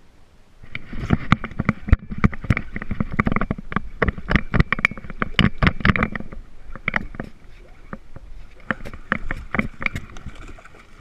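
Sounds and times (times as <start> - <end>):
knocks and rattles: 1.0 - 10.5.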